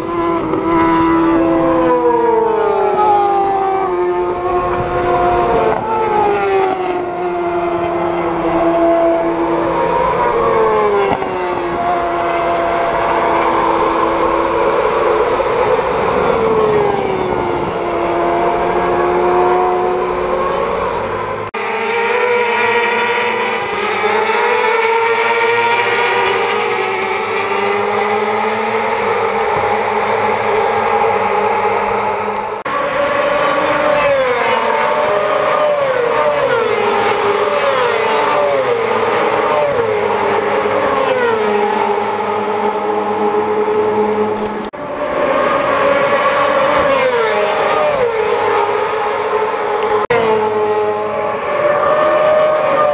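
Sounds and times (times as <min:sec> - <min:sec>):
motorcycles racing at high revs: 0:00.0 - 0:52.9.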